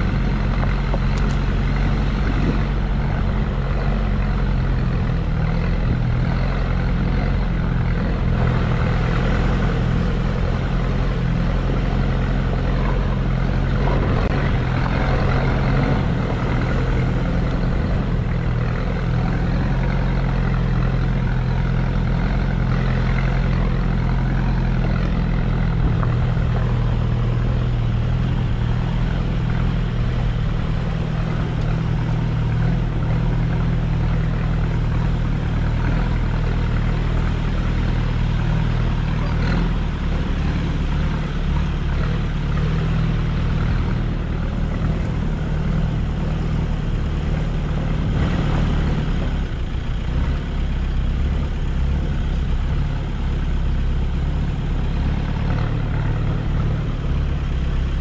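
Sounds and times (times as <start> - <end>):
vehicle engine droning: 0.0 - 58.0
wind and road noise: 0.0 - 58.0.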